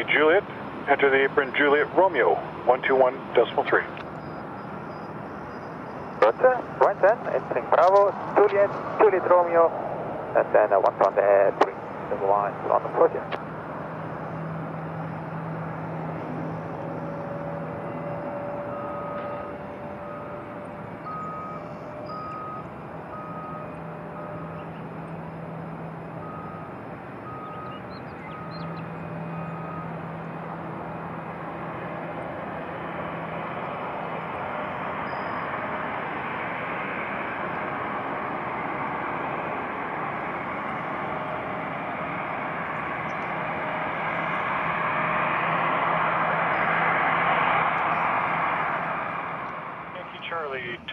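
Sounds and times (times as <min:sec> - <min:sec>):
engine rumble: 0:00.0 - 0:50.9
vehicle reversing beeper: 0:03.4 - 0:09.6, 0:13.8 - 0:48.9.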